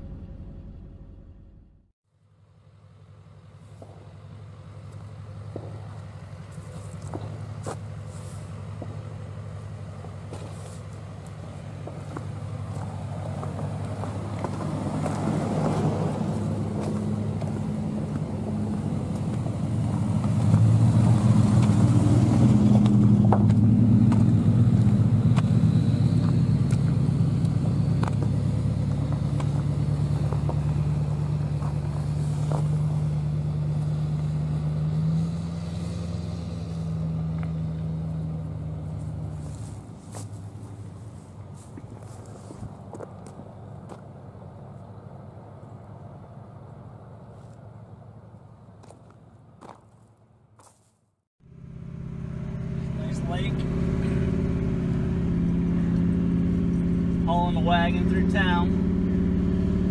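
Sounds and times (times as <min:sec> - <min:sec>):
heavy vehicle engine running: 0:00.0 - 0:48.8, 0:51.4 - 0:59.9.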